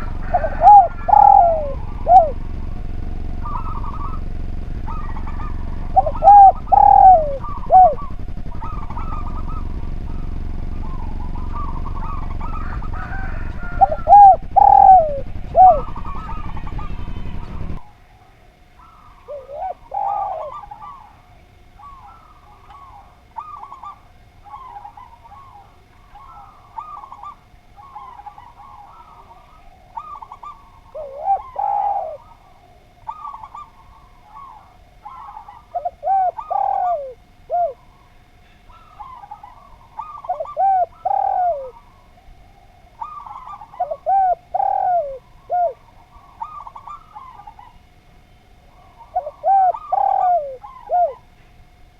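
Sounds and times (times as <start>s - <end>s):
dove cooing loudly: 0.0s - 48.0s, 48.6s - 51.5s
faint dove cooing: 0.0s - 51.9s
faint steady hum: 0.0s - 51.9s.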